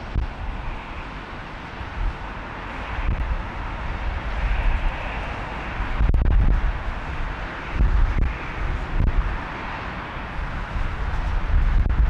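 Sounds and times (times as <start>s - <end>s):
jet aircraft rushing noise: 0.0s - 12.0s
wind buffeting microphone: 0.0s - 12.0s.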